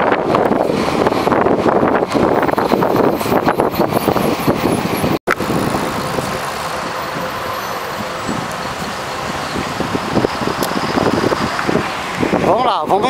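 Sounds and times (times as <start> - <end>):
road traffic rushing: 0.0 - 13.0
wind buffeting microphone: 0.0 - 13.0.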